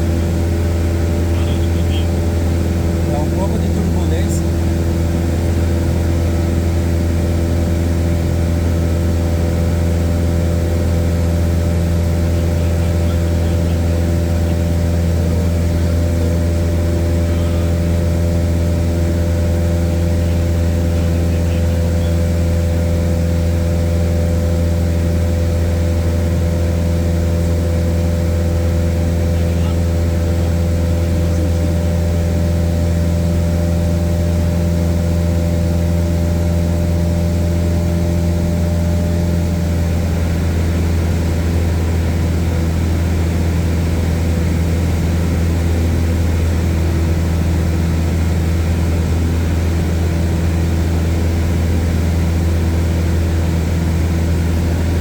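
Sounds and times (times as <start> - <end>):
airplane engine droning: 0.0 - 55.0.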